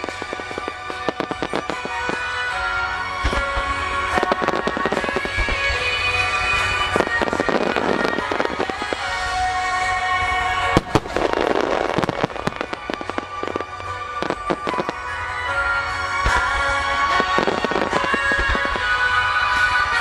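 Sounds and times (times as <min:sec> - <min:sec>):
fireworks bangs and crackles: 0:00.0 - 0:20.0
music: 0:00.0 - 0:20.0.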